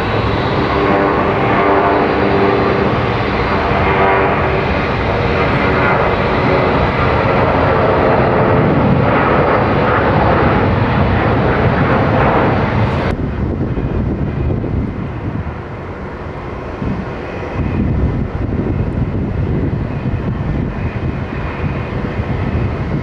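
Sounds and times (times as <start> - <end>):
jet engines on takeoff roll: 0.0 - 23.0
jet on approach: 0.0 - 23.0.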